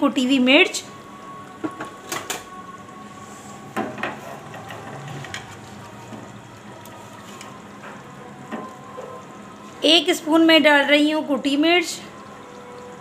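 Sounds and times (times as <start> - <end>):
stew simmering and sizzling: 0.1 - 13.0.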